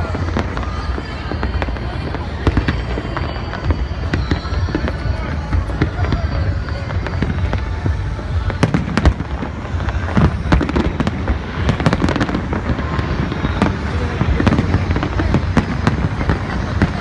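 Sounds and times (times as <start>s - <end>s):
fireworks exploding: 0.0s - 17.0s.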